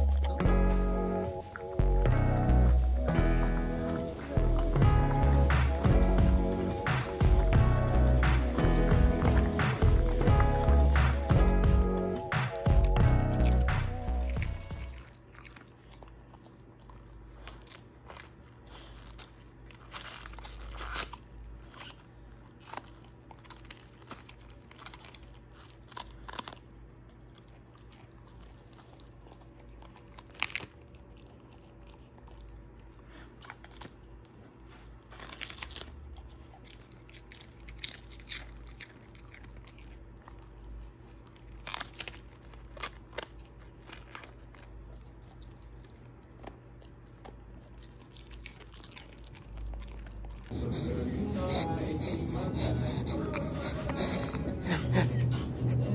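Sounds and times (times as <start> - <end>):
dog crunching cabbage leaves: 0.0 - 50.8.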